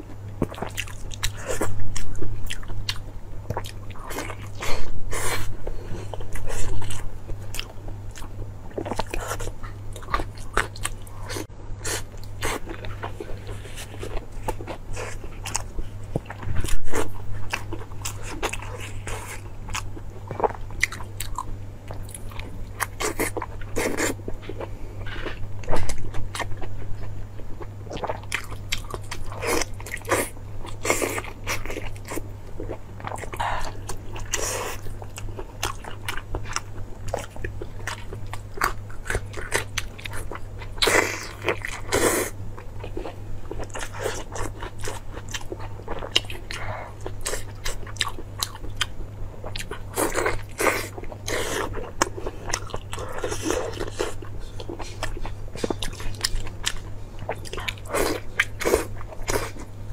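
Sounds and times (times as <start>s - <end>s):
steady low hum: 0.0s - 59.9s
chewing with mouth clicks and smacks: 0.2s - 4.7s, 6.1s - 59.7s.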